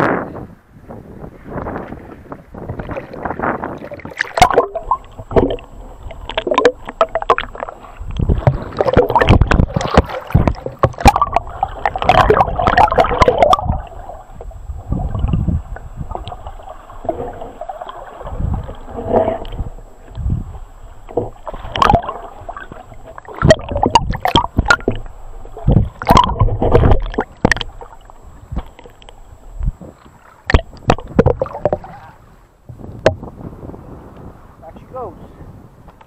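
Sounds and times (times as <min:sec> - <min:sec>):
water splashing and gurgling: 0:01.4 - 0:33.8.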